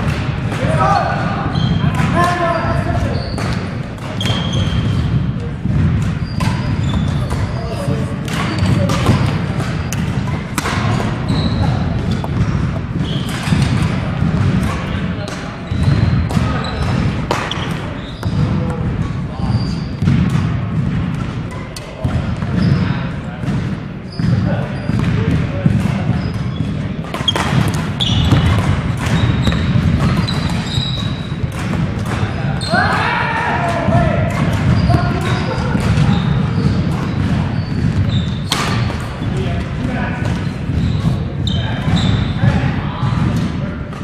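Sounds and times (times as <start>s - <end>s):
rackets hitting shuttlecocks: 0.0s - 44.0s
steady hall rumble: 0.0s - 44.0s
shoes squeaking on wooden floor: 0.9s - 14.6s, 15.6s - 20.2s, 22.4s - 23.1s, 24.0s - 33.0s, 33.7s - 43.2s.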